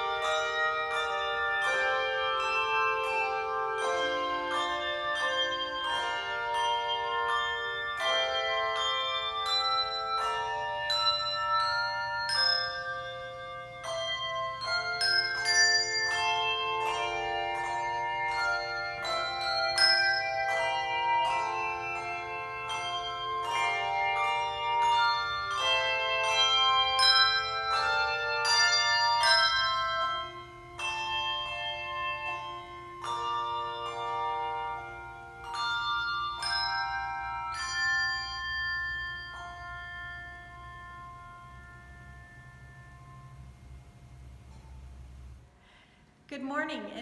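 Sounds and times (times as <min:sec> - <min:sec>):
handbell choir ringing: 0:00.0 - 0:44.9.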